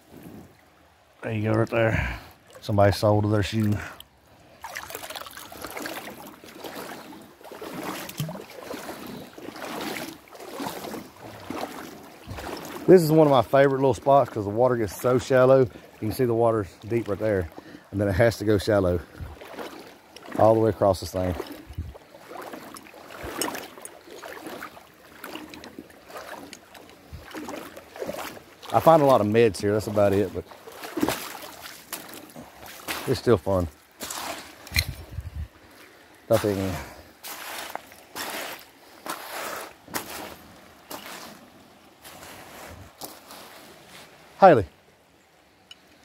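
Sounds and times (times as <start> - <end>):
water splashing around wading legs: 1.4 - 44.3
footsteps on stony creek bed: 4.7 - 44.4.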